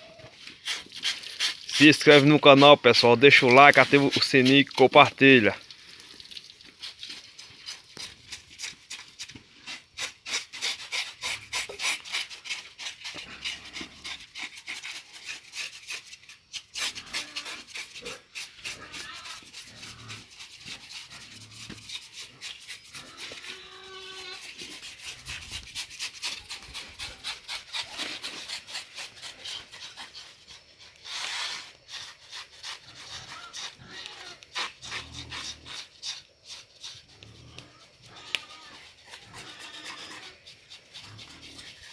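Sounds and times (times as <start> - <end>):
knife scraping pig skin: 0.4 - 5.6, 6.8 - 41.9.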